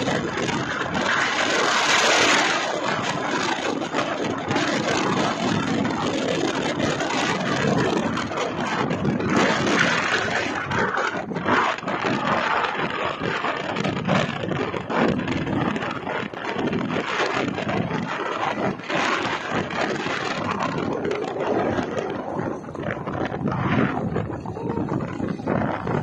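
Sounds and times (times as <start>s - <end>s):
motorbike engine and road noise: 0.0s - 26.0s
wind buffeting microphone: 0.0s - 26.0s.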